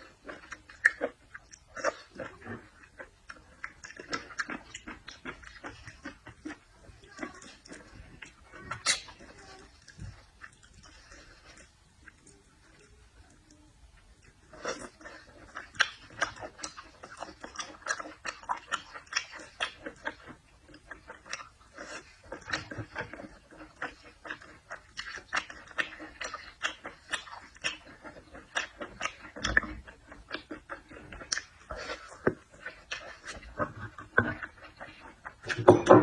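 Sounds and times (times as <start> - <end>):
mouth smacks and chewing clicks: 0.0 - 36.0
person chewing seafood: 0.0 - 36.0.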